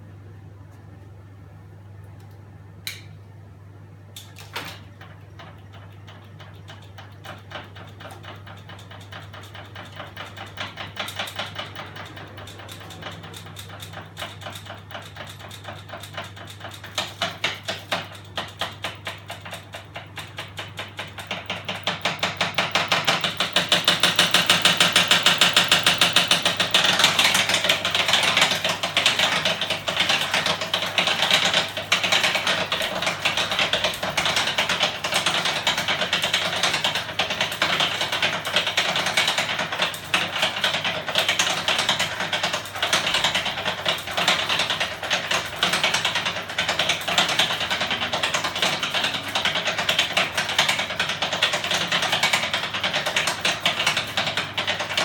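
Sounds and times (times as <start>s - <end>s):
rapid mechanical clicking: 4.2s - 55.0s.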